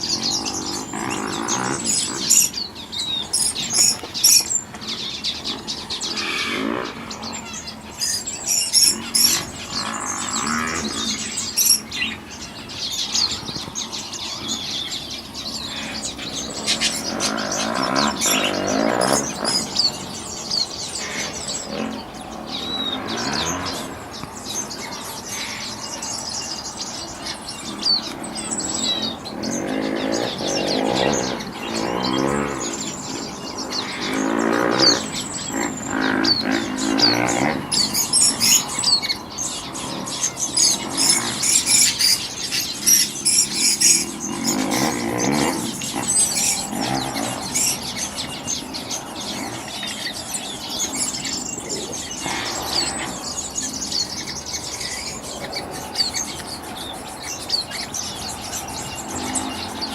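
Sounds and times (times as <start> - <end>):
harsh bird calls: 0.0 - 59.9
songbirds chirping and whistling: 0.0 - 59.9.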